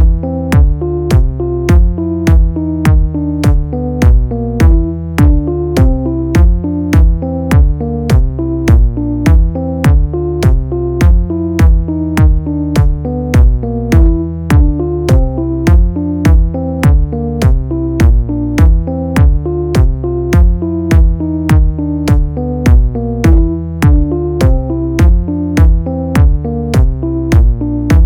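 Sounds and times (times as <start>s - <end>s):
drum machine beat: 0.0s - 28.0s
synth bass and chords: 0.0s - 28.0s.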